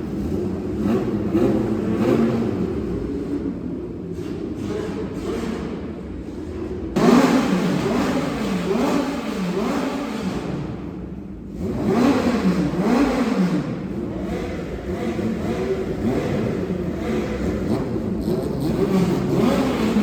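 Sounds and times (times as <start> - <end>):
engine idling and revving: 0.0 - 20.0.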